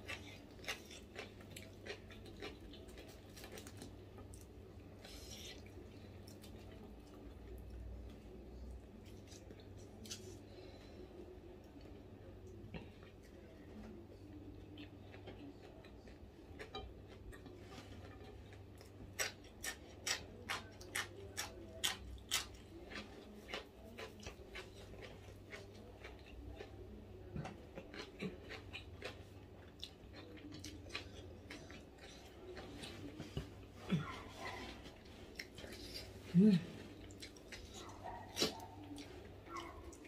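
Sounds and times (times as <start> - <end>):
chewing crunchy food: 0.0 - 40.0
low steady hum: 0.0 - 40.0.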